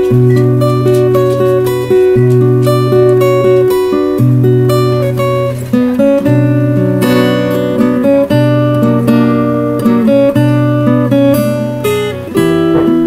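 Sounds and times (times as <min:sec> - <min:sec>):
fingerstyle acoustic guitar: 0:00.0 - 0:13.0.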